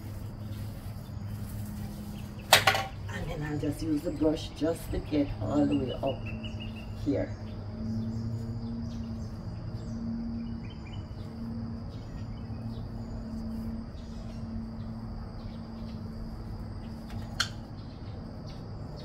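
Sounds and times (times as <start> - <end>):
high insect drone: 0.0 - 19.0
low steady hum: 0.0 - 19.0.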